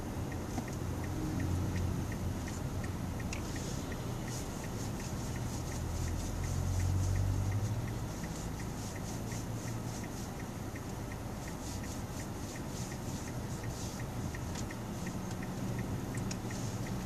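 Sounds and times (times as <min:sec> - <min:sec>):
car engine idling: 0:00.0 - 0:17.0
steady ticking: 0:00.0 - 0:17.0.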